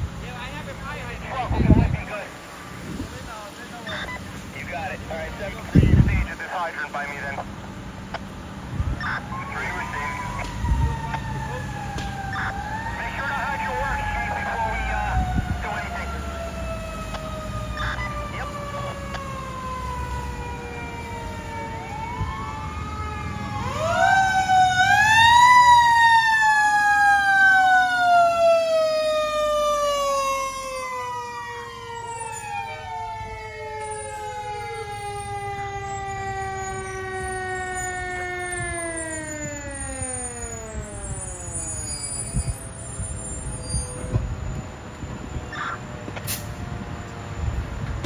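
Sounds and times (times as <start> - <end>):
second siren sweeping up and down: 0.0 - 48.0
fire engine siren winding: 9.0 - 48.0.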